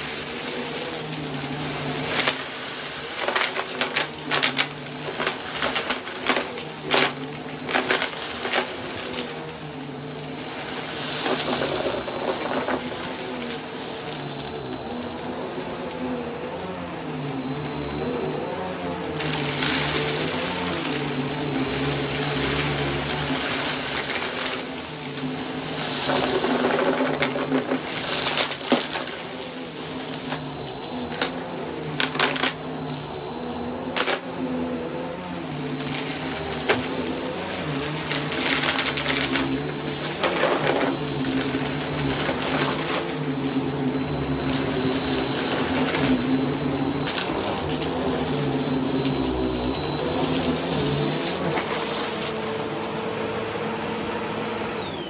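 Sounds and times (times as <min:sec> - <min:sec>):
vacuum cleaner motor hum: 0:00.0 - 0:55.0.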